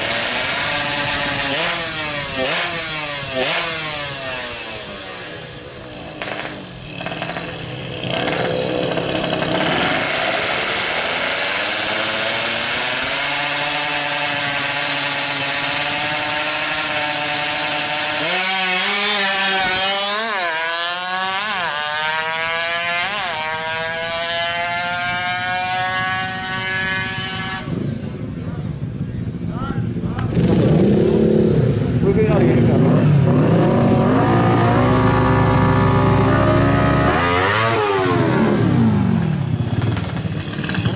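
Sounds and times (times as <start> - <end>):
two-stroke motorcycle engine revving: 0.0 - 29.4, 30.0 - 40.9.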